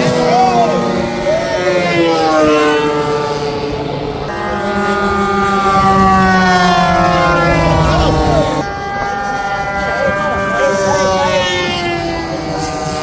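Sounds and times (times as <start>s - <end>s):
model plane motors whining: 0.0s - 13.0s.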